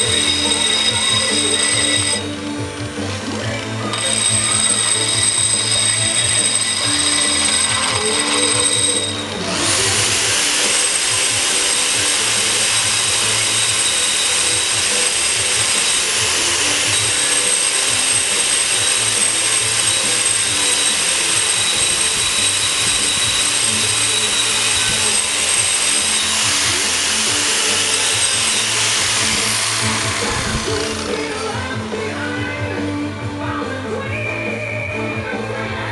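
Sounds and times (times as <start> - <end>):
angle grinder grinding concrete: 0.0 - 33.2.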